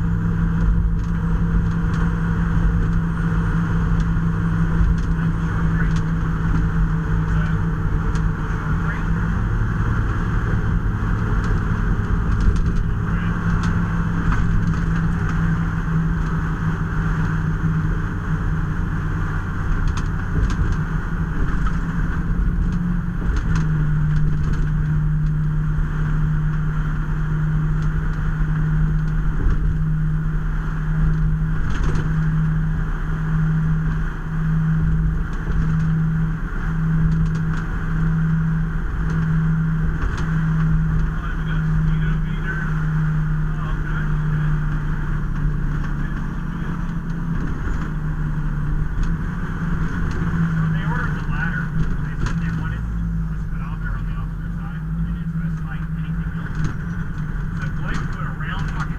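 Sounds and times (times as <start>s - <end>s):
road noise: 0.0s - 58.9s
truck engine drone: 0.0s - 58.9s.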